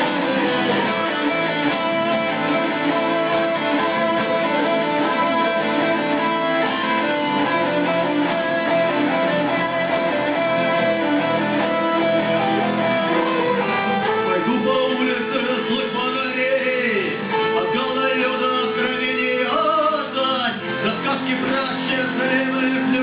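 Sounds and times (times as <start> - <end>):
guitars strumming chords: 0.0 - 23.0.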